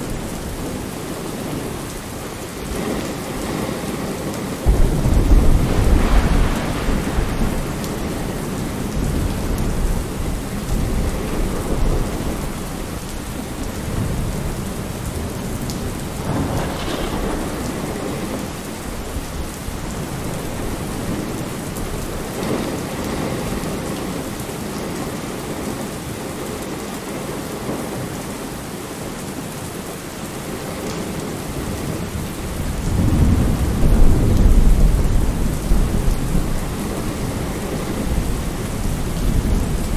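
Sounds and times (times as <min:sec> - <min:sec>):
thunder rumbling: 0:00.0 - 0:24.4, 0:31.6 - 0:39.9
steady rainfall: 0:00.0 - 0:39.9.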